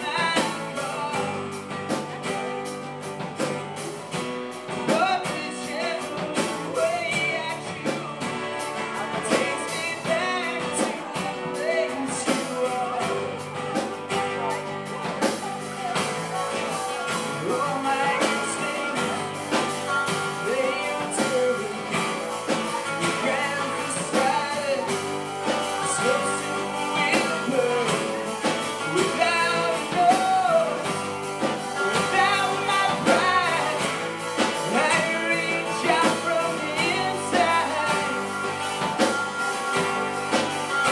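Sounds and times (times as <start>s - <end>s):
acoustic guitars strummed: 0.0s - 40.9s
drum kit: 0.0s - 40.9s
man singing: 0.0s - 40.9s.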